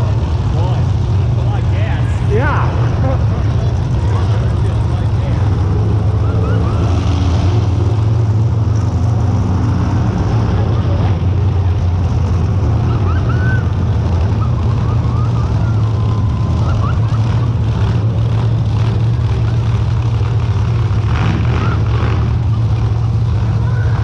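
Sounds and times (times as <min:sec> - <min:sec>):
monster truck engines idling: 0:00.0 - 0:24.0.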